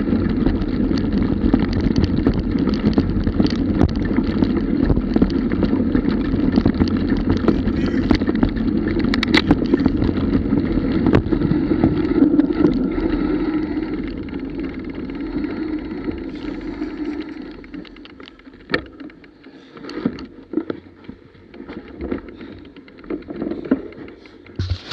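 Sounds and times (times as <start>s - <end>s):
bike clicks and knocks: 0.0s - 24.9s
mountain bike rattling over grass: 0.0s - 24.9s.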